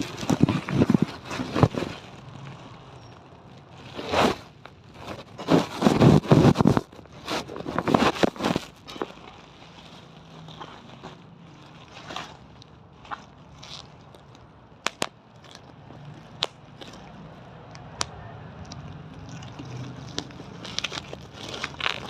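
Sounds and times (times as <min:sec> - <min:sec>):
rapid irregular clicking and crackling: 0:00.0 - 0:22.0.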